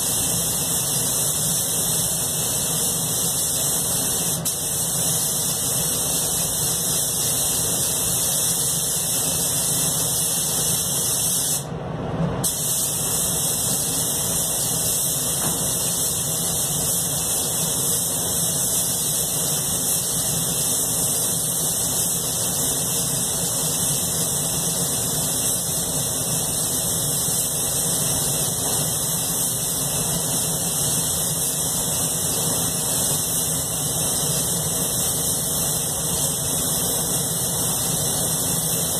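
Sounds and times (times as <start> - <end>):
spray gun hissing: 0.0 - 11.7, 12.4 - 38.9.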